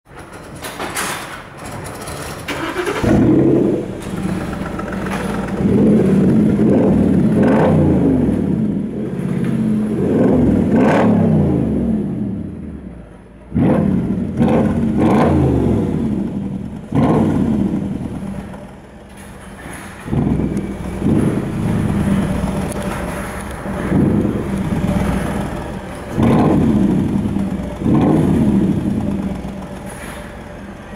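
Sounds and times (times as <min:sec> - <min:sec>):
car engine revving: 0:02.5 - 0:30.9.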